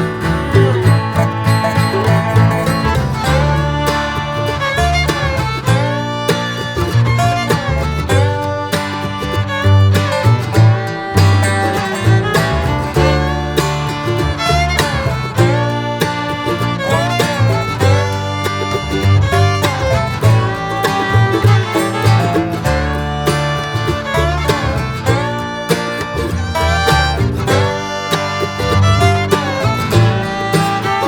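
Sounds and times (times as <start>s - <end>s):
bluegrass tune with guitar and fiddle: 0.0s - 31.0s.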